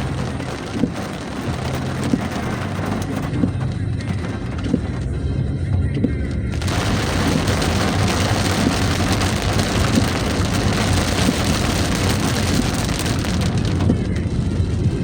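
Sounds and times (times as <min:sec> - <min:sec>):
heavy rain pouring: 0:00.0 - 0:15.0
low vehicle rumble: 0:00.0 - 0:15.0.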